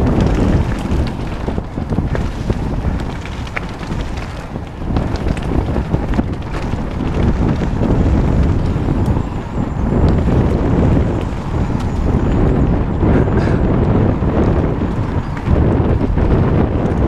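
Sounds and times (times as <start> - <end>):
bike rattling over stones: 0.0 - 17.0
bike tyres rolling over gravel: 0.0 - 17.0
wind buffeting microphone: 0.0 - 17.0.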